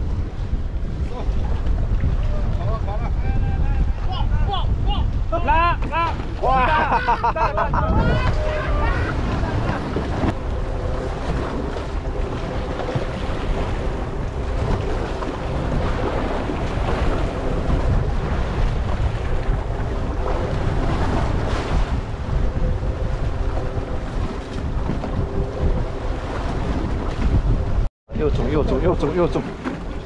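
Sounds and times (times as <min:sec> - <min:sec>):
waves washing against boat hull: 0:00.0 - 0:03.2, 0:05.1 - 0:30.0
wind buffeting microphone: 0:00.0 - 0:30.0.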